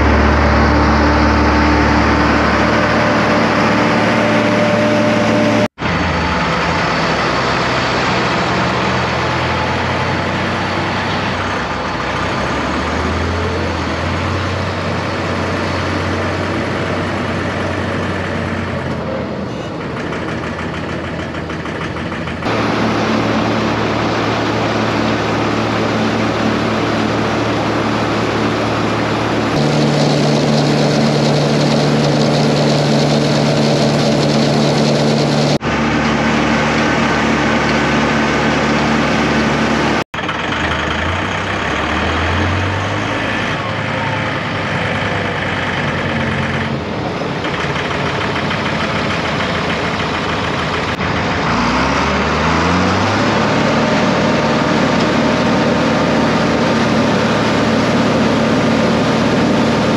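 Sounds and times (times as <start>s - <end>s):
silage blower running: 0.0s - 19.2s, 19.8s - 59.9s
tractor engine running: 0.0s - 59.9s.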